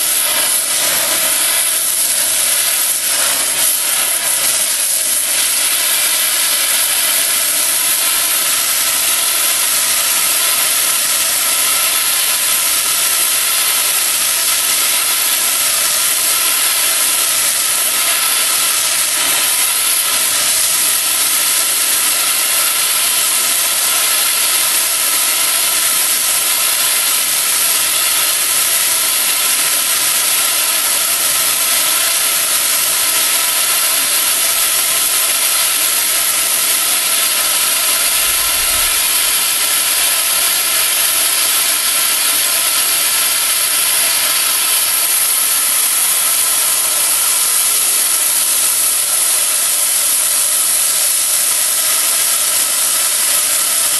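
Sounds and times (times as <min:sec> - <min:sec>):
cutting torch hissing: 0:00.0 - 0:53.9.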